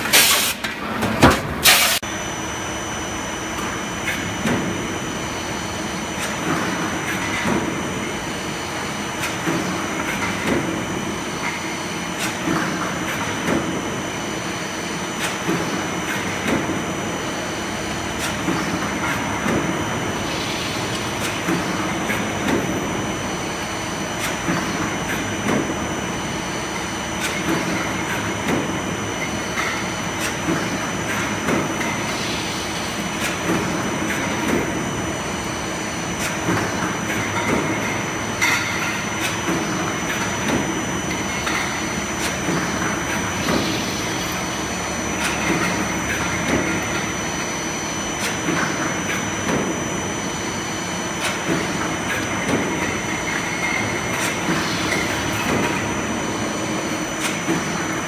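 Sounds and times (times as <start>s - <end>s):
power press rattle and hum: 0.0s - 58.0s.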